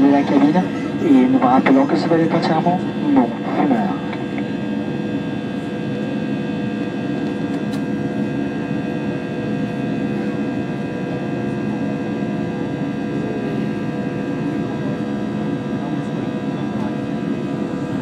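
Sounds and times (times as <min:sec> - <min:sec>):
airplane cabin drone: 0:00.0 - 0:18.0
steady whining tones: 0:00.0 - 0:18.0.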